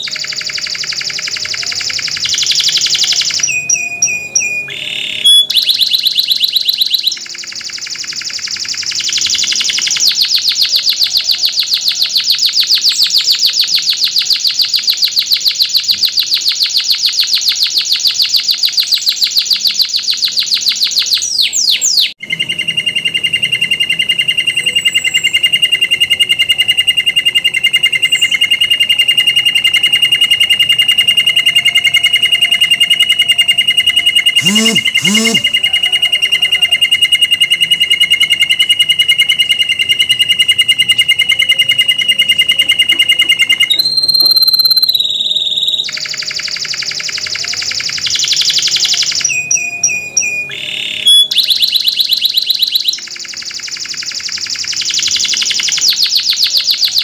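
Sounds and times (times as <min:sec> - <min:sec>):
canary singing rolling trill: 0:00.0 - 0:57.0.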